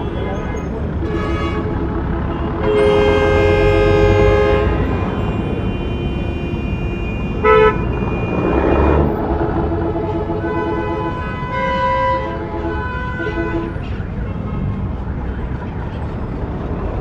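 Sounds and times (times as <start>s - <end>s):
vehicle horn: 0.0s - 13.9s
traffic rumble and passing cars: 0.0s - 17.0s.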